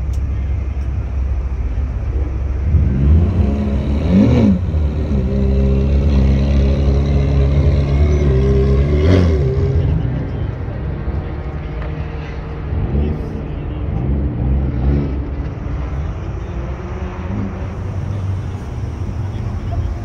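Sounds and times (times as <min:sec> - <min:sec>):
car engine revving at low speed: 0:00.0 - 0:20.0.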